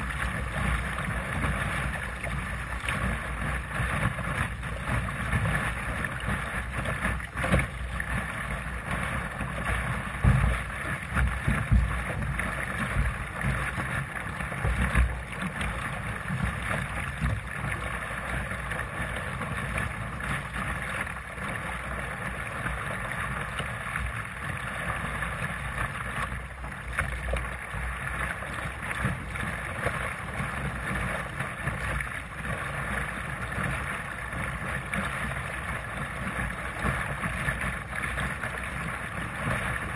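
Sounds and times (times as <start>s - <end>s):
water splashing along a hull: 0.0s - 39.9s.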